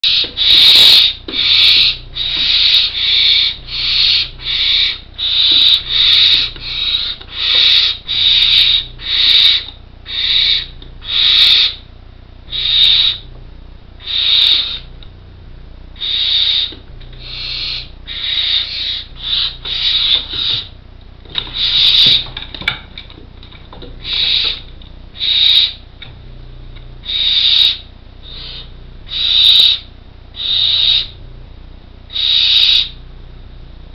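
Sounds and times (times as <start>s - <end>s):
owl chicks rasping begging calls: 0.0s - 13.3s, 14.0s - 14.9s, 16.0s - 22.4s, 24.0s - 25.9s, 27.0s - 31.2s, 32.1s - 33.0s.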